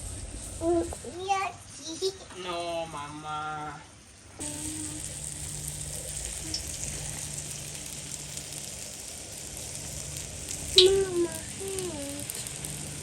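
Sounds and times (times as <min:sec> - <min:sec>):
dough frying in hot oil: 0:00.0 - 0:13.0.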